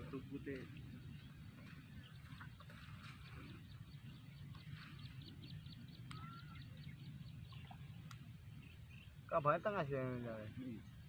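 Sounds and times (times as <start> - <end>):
low steady rumble: 0.0 - 11.0
bird ticking chirps: 0.5 - 9.6.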